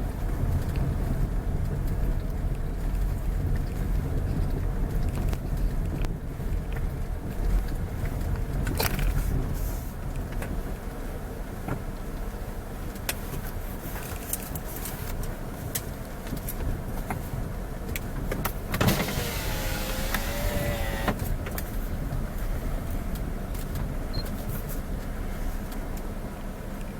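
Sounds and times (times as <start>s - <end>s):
road vehicle rumbling: 0.0s - 26.9s.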